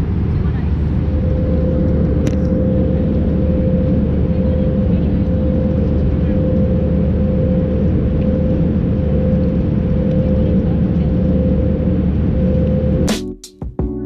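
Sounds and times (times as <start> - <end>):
airplane cabin drone: 0.0 - 13.2.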